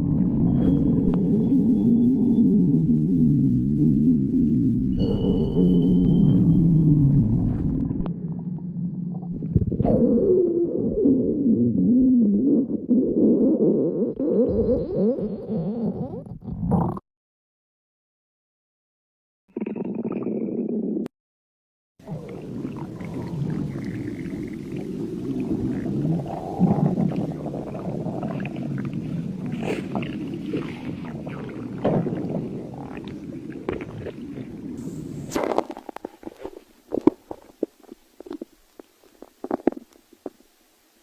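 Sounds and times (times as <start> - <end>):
stomach growling: 0.0 - 17.0, 19.5 - 21.1, 22.0 - 40.6.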